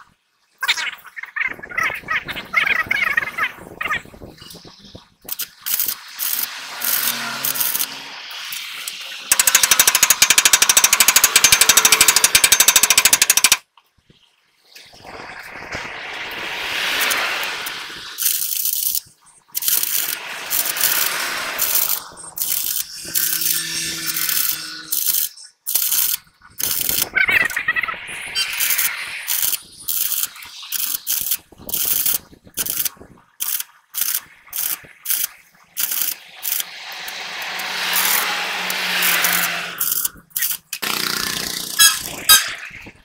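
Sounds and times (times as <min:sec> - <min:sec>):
metalwork crackling and scraping: 0:05.3 - 0:13.6, 0:14.8 - 0:43.0.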